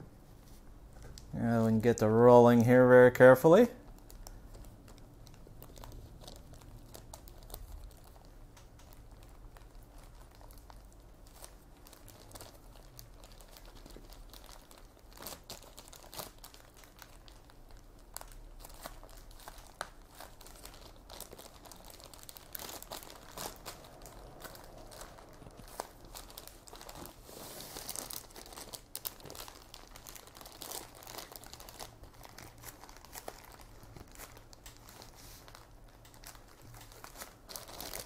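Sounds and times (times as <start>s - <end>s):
plastic bag crinkling: 1.1s - 38.0s.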